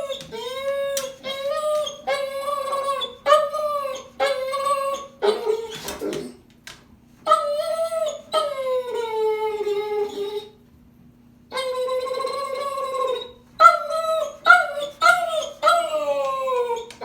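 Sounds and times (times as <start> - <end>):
dog howling and whining: 0.0 - 6.4, 7.2 - 10.6, 11.5 - 17.0.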